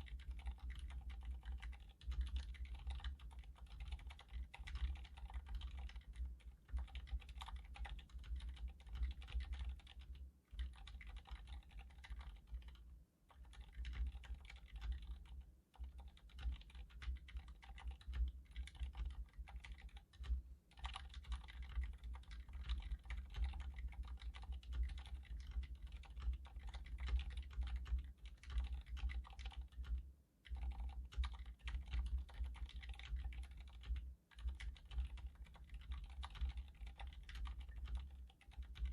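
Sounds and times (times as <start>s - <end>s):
muffled keyboard typing: 0.0s - 38.9s.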